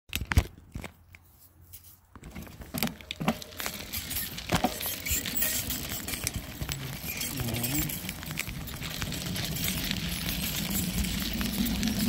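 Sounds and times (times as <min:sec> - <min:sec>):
bicycle tyre and wind noise: 0:02.2 - 0:12.0
crackles and clicks: 0:02.2 - 0:12.0.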